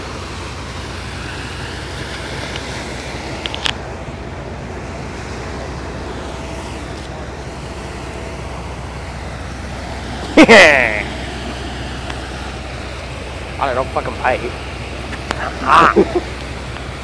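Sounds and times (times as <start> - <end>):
ferry engine rumble: 0.0 - 17.0.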